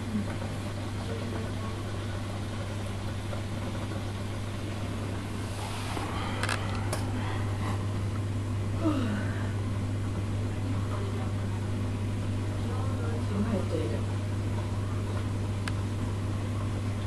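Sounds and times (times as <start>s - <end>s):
aquarium pump humming: 0.0s - 17.0s.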